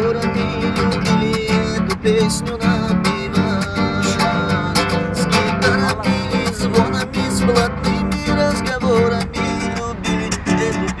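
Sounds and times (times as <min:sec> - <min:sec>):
classical guitar strumming: 0:00.0 - 0:11.0.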